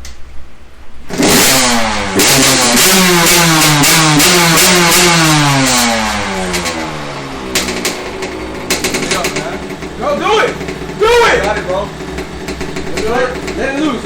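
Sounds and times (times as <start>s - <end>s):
dirt bike engine revving: 1.1s - 14.0s.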